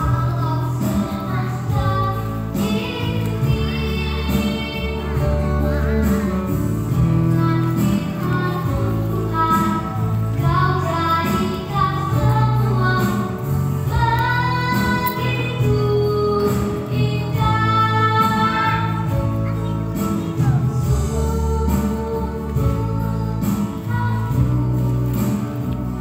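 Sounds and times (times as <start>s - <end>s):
child singing: 0.0s - 25.4s
instrumental accompaniment: 0.0s - 26.0s.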